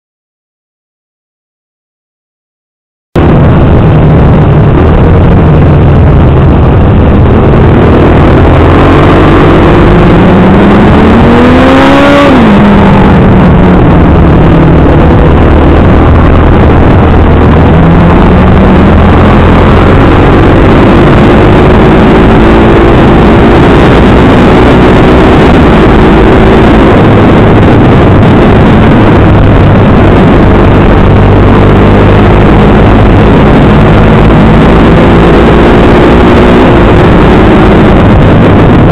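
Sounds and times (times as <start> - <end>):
motorcycle engine accelerating: 3.2 - 38.9
wind rushing on microphone: 3.2 - 38.9.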